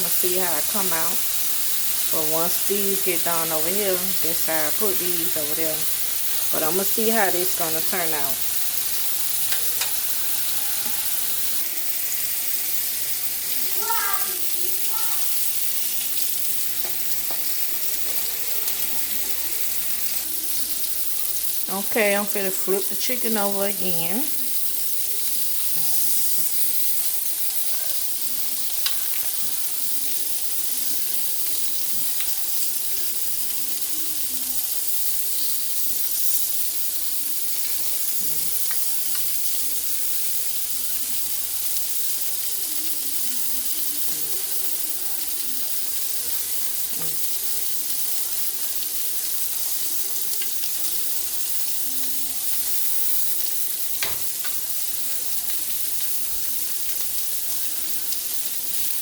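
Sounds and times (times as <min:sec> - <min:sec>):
chicken sizzling on a grill: 0:00.0 - 0:59.0.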